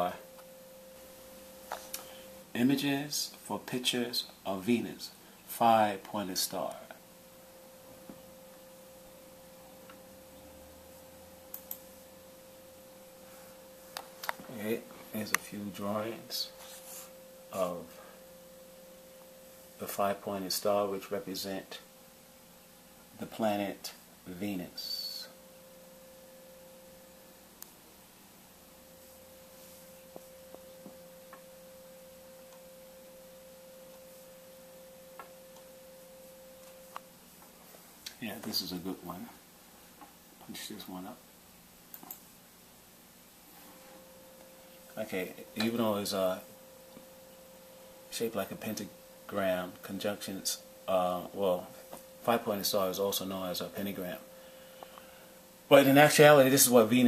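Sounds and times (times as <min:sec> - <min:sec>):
faint electrical hum and hiss: 0:00.0 - 0:57.0.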